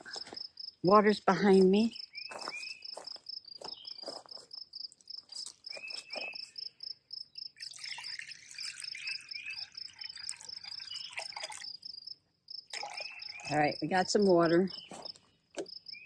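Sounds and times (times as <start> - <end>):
bird chirps: 1.5 - 12.1, 12.7 - 16.0
insect trilling: 1.8 - 16.0.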